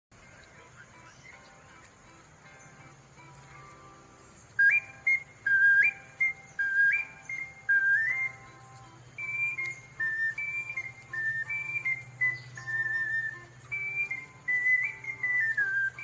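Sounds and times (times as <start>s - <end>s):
ocarina playing: 0.2s - 16.0s.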